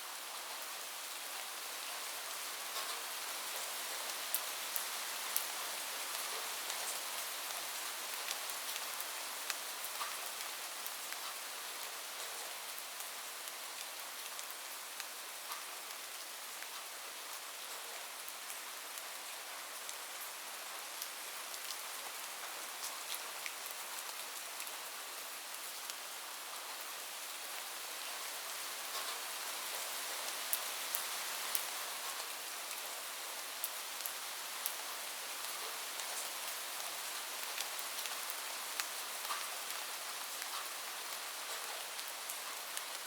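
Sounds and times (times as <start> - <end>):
heavy rain on a roof: 0.0 - 43.0.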